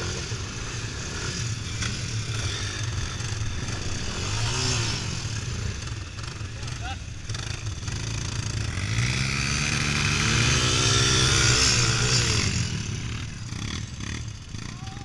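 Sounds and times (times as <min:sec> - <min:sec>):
quad bike engine revving: 0:00.0 - 0:15.0
wind: 0:00.0 - 0:15.0.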